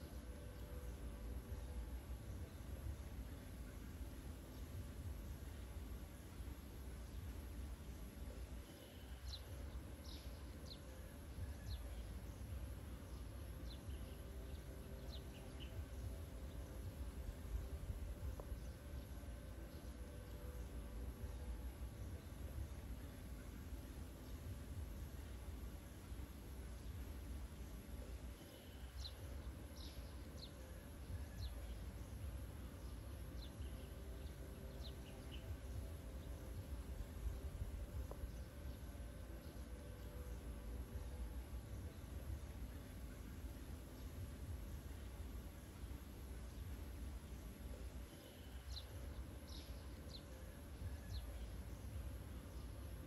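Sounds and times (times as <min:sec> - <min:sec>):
low steady rumble: 0:00.0 - 0:53.0.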